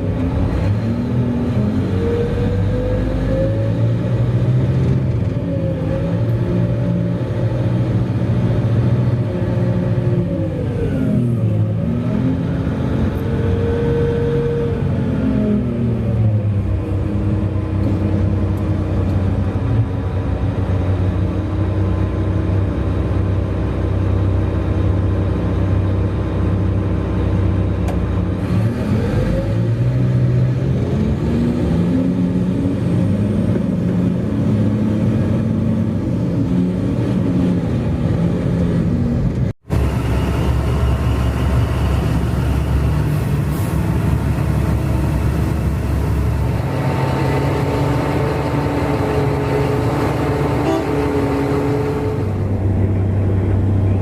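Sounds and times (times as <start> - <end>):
heavy diesel engines revving: 0.0 - 54.0.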